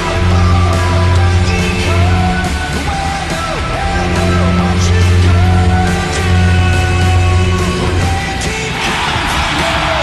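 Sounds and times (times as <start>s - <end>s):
loud rock music with guitar: 0.0s - 10.0s.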